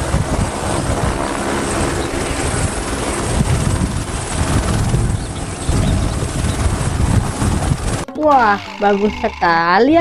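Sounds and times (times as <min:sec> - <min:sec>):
helicopter hovering: 0:00.0 - 0:10.0.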